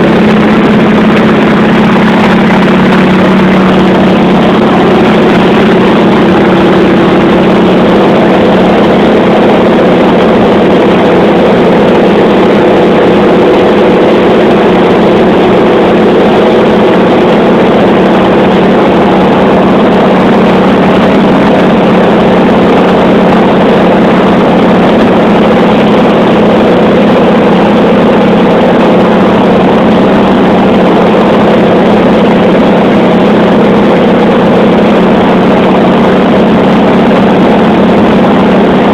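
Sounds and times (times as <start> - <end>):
propeller aircraft engine drone: 0.0 - 38.9.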